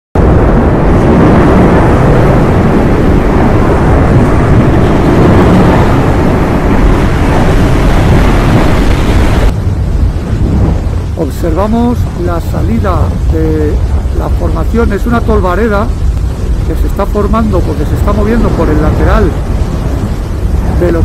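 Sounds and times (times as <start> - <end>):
volcano rumbling roar: 0.2 - 21.0.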